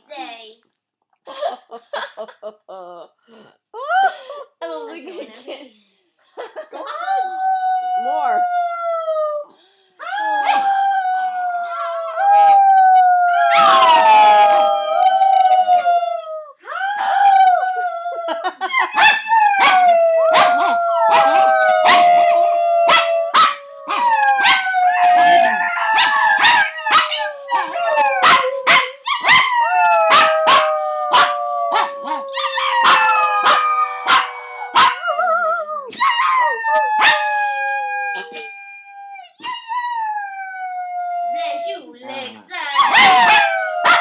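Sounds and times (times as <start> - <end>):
dog howling: 7.1 - 41.5, 42.8 - 44.0.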